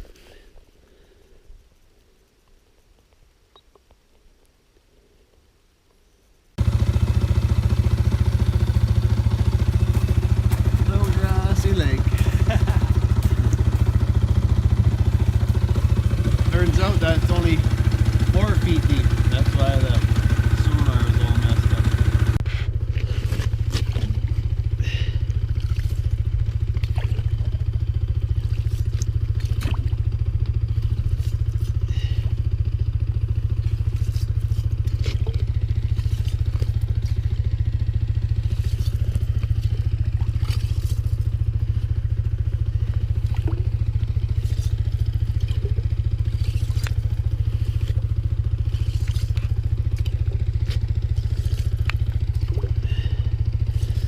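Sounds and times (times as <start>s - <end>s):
small engine running: 6.6s - 54.0s.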